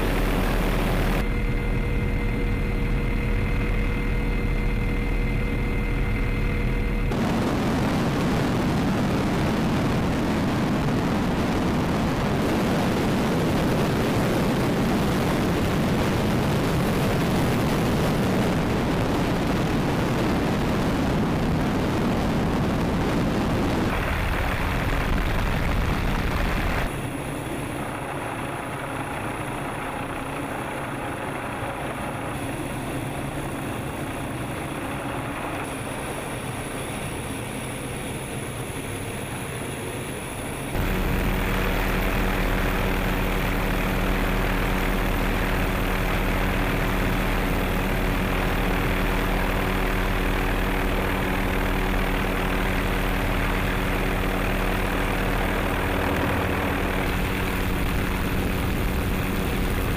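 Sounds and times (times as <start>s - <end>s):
helicopter turbine whine: 0.0s - 59.9s.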